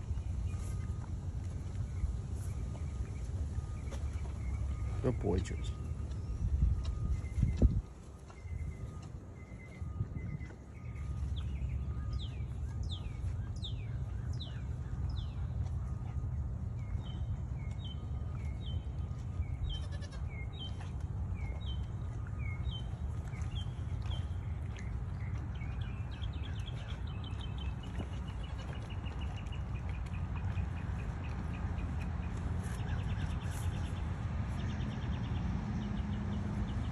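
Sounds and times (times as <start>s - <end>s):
songbird singing: 0.0s - 36.9s.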